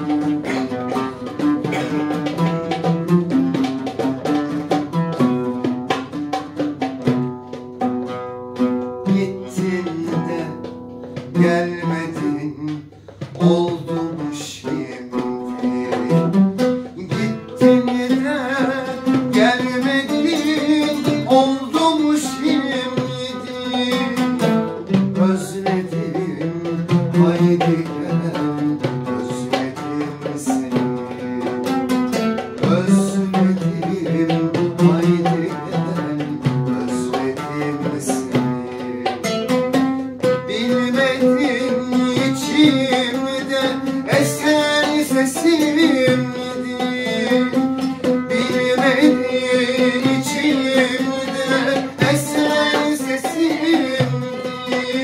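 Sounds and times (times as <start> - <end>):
man singing: 0.0 - 6.8, 8.6 - 55.0
oud playing: 0.0 - 55.0.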